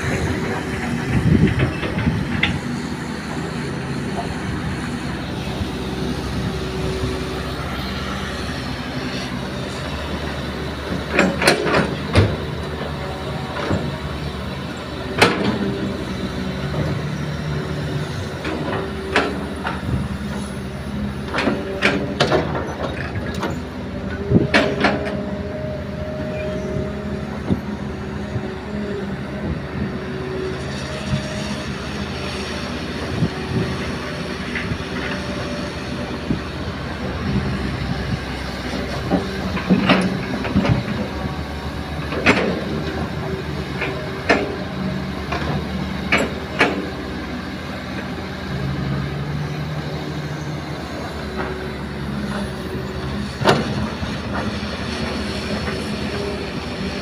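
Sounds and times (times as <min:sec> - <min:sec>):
excavator engine hum: 0:00.0 - 0:57.0.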